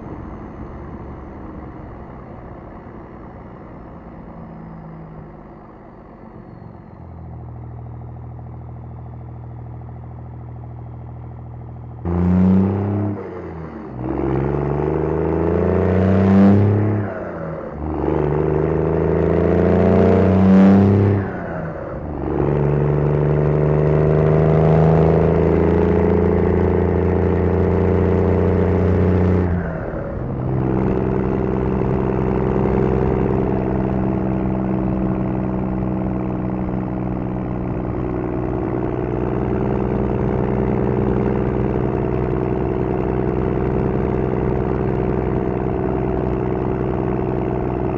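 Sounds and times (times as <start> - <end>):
diesel truck engine revving: 0.0 - 47.9.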